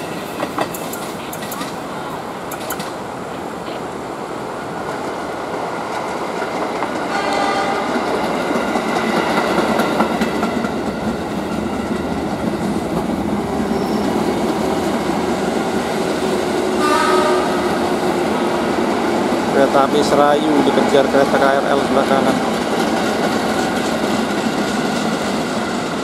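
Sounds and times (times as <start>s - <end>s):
train wheels clattering over track: 0.0s - 3.1s, 4.8s - 26.0s.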